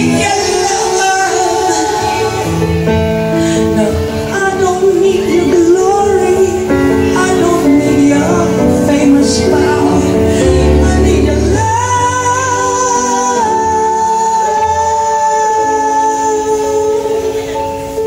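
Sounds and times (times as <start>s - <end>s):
keyboard accompaniment: 0.0s - 18.0s
woman singing into a microphone: 0.0s - 18.0s.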